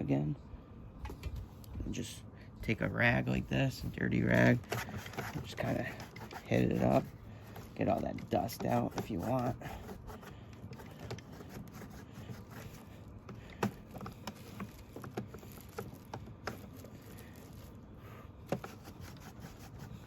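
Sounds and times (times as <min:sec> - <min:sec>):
rag rubbing plastic: 0:03.3 - 0:20.0.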